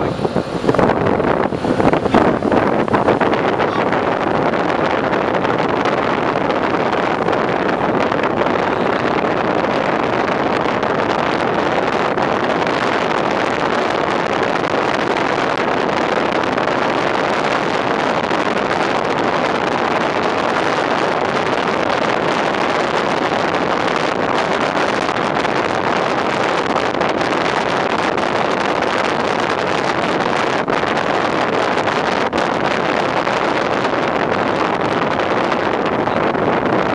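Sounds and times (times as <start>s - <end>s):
fire engine road noise: 0.0s - 36.9s
wind buffeting microphone: 0.0s - 36.9s
wind rushing: 0.0s - 36.9s.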